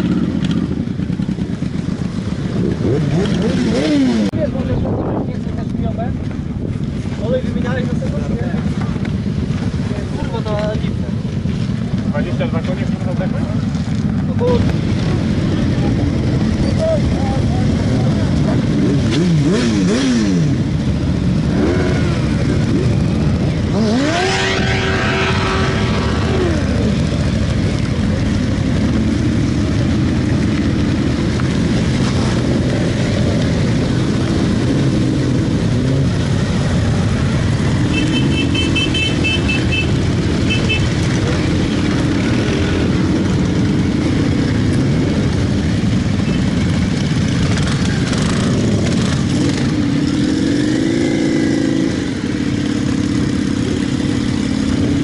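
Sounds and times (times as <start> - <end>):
motorcycle engines rumbling: 0.0 - 55.0
motorcycle revving: 0.0 - 55.0.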